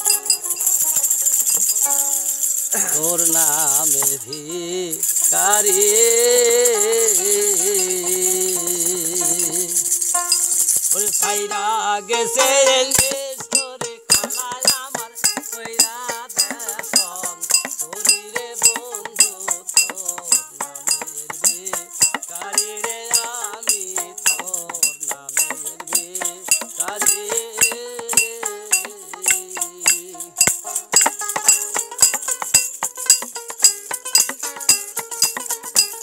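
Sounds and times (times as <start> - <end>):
metallic jingle of hand percussion: 0.0 - 36.0
wavering melody with vibrato: 0.0 - 36.0.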